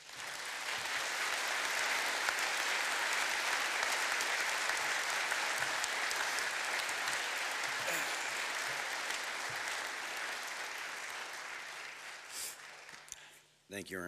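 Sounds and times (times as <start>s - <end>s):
large audience applauding: 0.0s - 13.3s.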